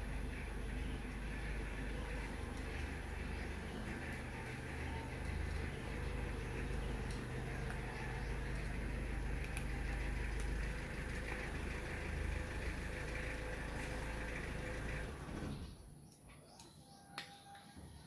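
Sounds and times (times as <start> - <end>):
motor rumble with hum: 0.0 - 16.6.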